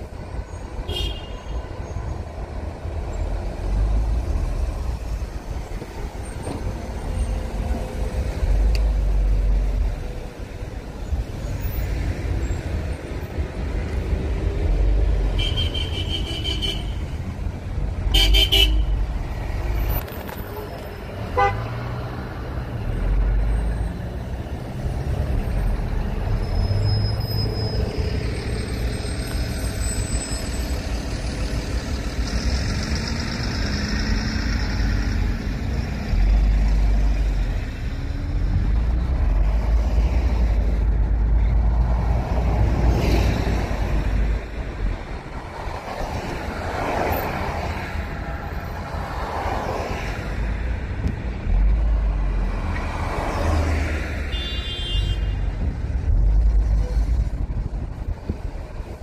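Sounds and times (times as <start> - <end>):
low rumble of traffic: 0.0 - 59.0.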